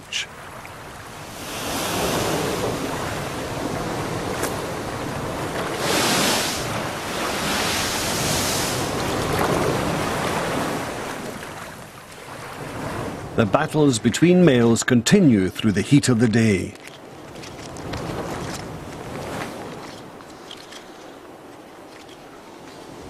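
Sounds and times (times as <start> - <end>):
ocean waves breaking on rocks: 0.0 - 23.0.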